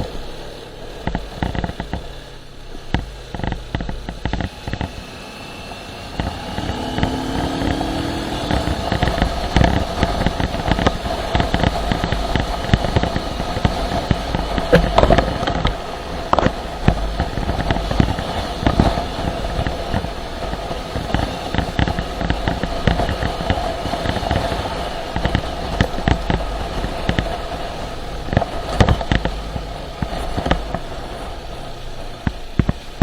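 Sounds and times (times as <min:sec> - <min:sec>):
exhaust crackles and pops: 0:00.0 - 0:33.0
motorcycle engine rumbling: 0:00.0 - 0:33.0.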